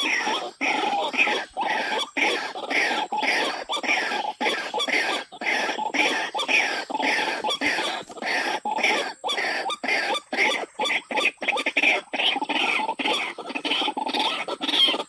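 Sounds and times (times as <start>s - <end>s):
waterhen calling harsh rasping notes: 0.0s - 15.0s.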